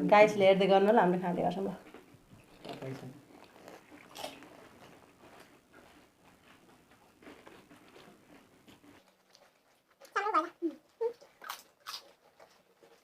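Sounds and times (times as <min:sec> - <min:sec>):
chewing and crunching: 0:01.5 - 0:13.0.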